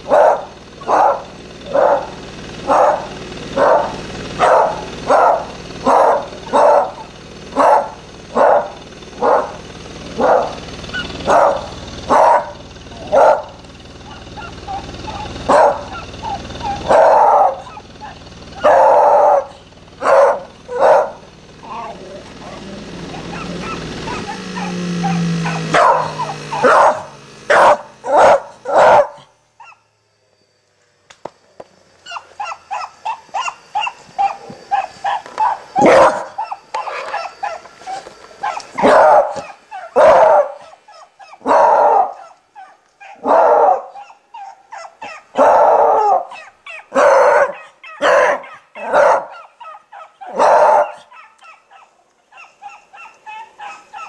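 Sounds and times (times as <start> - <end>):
dog yipping: 0.1 - 2.1, 2.7 - 9.6, 10.2 - 13.5, 14.1 - 29.9, 32.0 - 54.0
dog barking: 0.1 - 9.6, 10.2 - 21.9, 23.2 - 29.8, 32.1 - 54.0.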